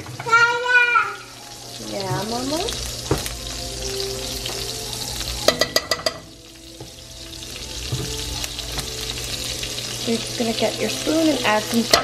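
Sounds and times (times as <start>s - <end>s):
butter sizzling in frying pan: 0.0s - 12.0s.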